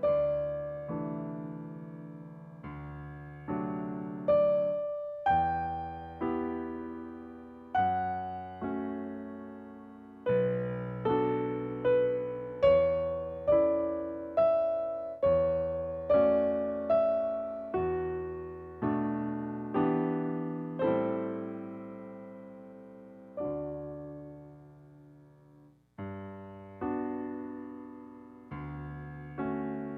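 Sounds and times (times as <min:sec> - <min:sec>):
piano playing slow chords: 0:00.0 - 0:29.9.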